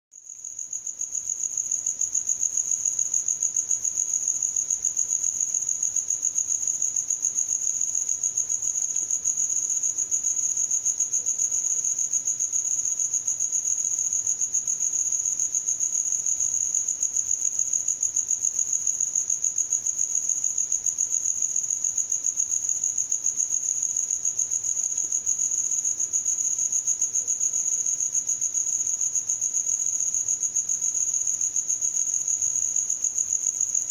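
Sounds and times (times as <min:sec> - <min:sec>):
cricket chirping: 0:00.2 - 0:33.9.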